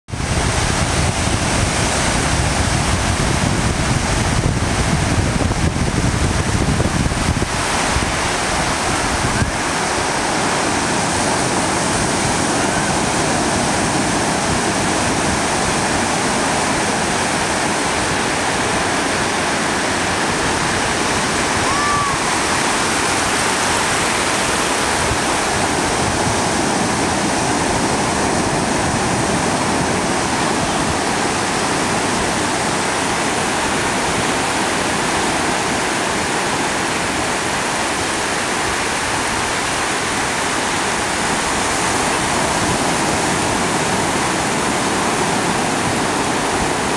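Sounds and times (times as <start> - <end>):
surf breaking on beach: 0.1 - 46.9.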